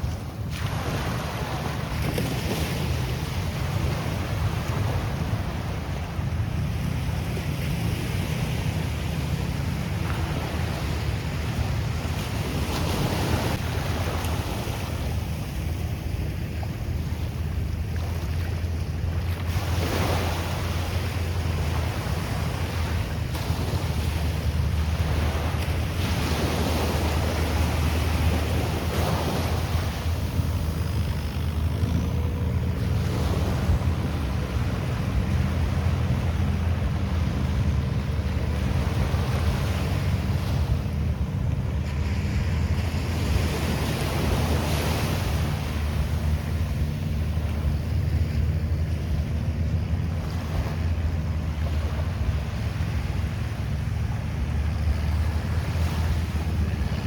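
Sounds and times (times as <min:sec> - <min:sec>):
sea waves washing ashore: 0:00.0 - 0:57.0
wind buffeting microphone: 0:00.0 - 0:57.0.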